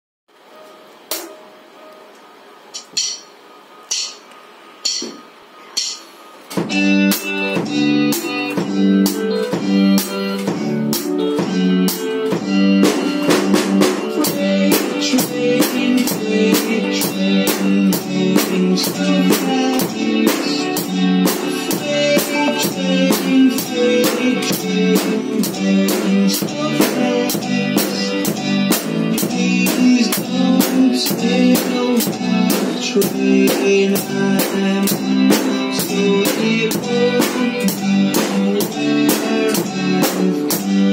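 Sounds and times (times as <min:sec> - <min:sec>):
drum kit playing driving beat: 0:01.1 - 0:01.4, 0:02.7 - 0:40.9
backing track with guitar and bass: 0:02.8 - 0:40.9.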